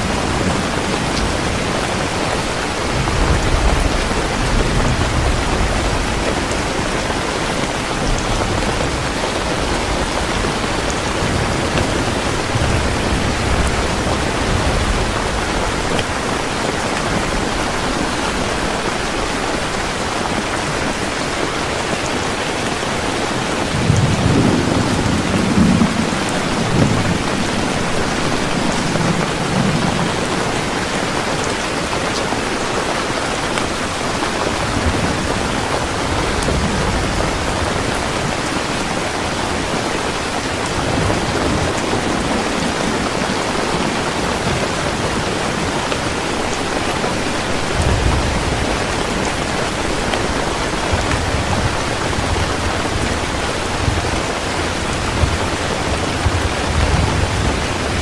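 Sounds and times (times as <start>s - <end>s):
heavy rain falling: 0.0s - 58.0s
rolling thunder rumbling: 0.0s - 58.0s.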